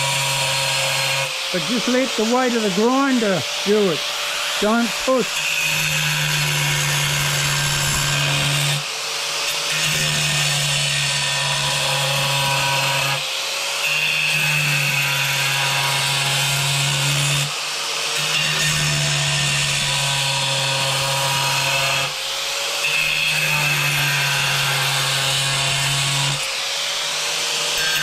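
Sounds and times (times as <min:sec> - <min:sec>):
angle grinder cutting tile: 0:00.0 - 0:28.0.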